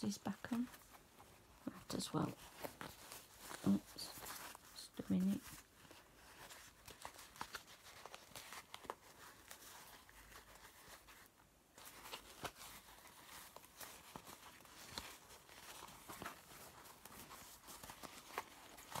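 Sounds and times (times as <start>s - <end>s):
faint rustling: 0.0s - 19.0s.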